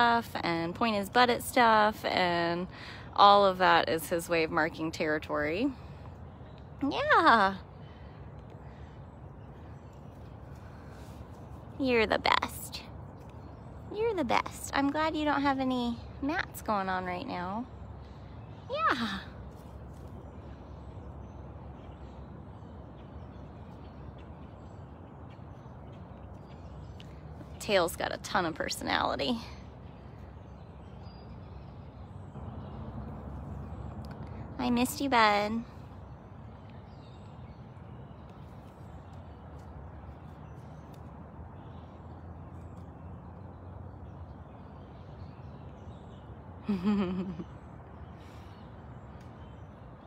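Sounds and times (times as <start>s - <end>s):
low hum: 0.0s - 50.0s
low outdoor rumble: 0.0s - 50.0s.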